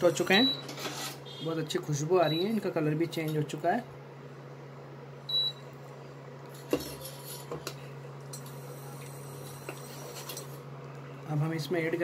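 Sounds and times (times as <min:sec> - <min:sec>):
induction cooktop humming: 0:00.0 - 0:12.0.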